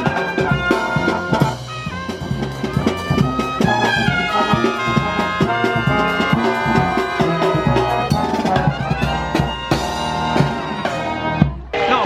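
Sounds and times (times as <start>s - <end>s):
brass marching band playing: 0.0s - 12.0s.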